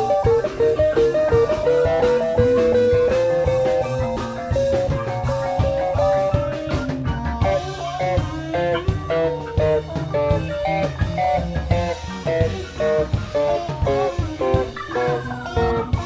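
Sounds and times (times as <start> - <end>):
bass guitar: 0.0 - 16.0
drums: 0.0 - 16.0
electric guitar quick single notes: 0.0 - 16.0
keyboards: 0.0 - 16.0.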